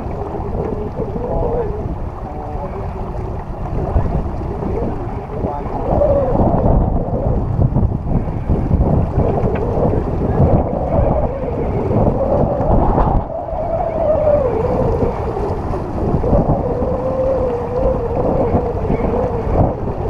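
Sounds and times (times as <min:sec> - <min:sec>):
rushing water: 0:00.0 - 0:20.0
wavering hum: 0:00.0 - 0:20.0
wind buffeting microphone: 0:00.0 - 0:20.0.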